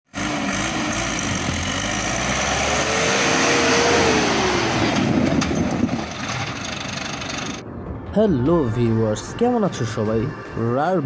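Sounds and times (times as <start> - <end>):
engine whine: 0.1 - 11.0.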